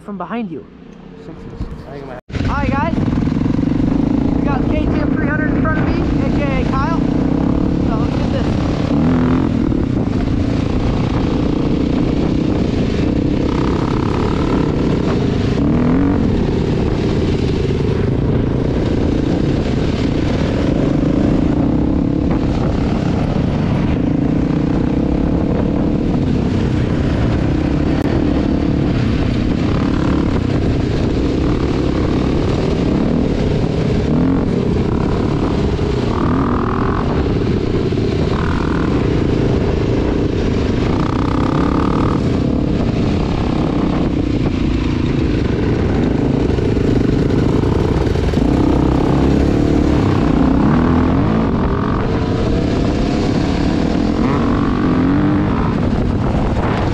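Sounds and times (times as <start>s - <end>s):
dirt bike engines running: 0.0s - 56.9s.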